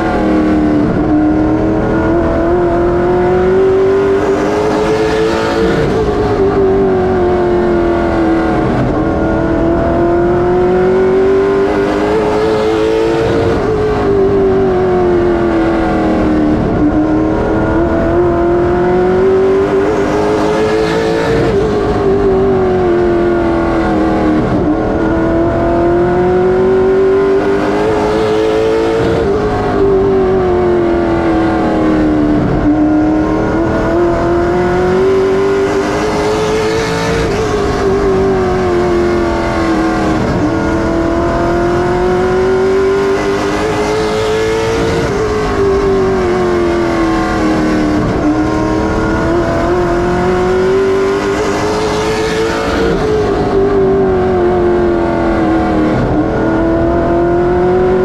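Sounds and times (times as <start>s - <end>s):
race car engine: 0.0s - 58.0s.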